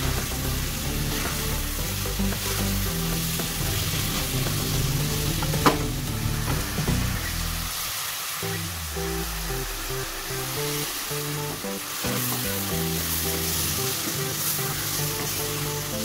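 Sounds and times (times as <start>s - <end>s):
meat and onions sizzling in oil: 0.0s - 16.0s.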